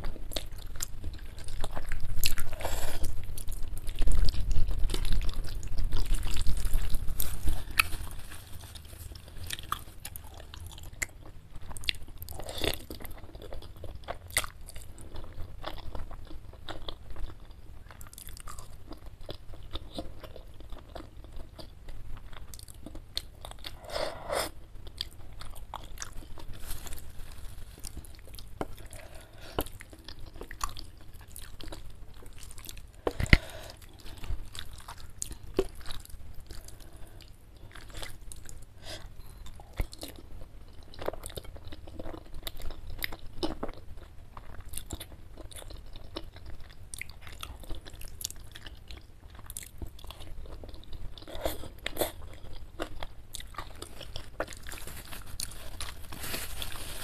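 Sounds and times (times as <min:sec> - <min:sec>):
wet chewing with crunchy bites: 0:00.0 - 0:57.0.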